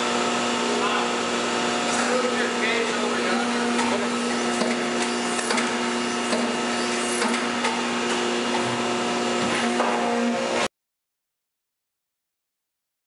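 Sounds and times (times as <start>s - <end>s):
hydraulic machine hum and whine: 0.0s - 10.7s.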